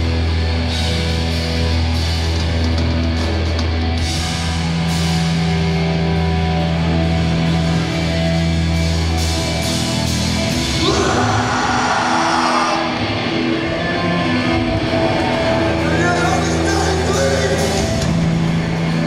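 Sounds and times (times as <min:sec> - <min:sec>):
punk band playing live: 0:00.0 - 0:19.0.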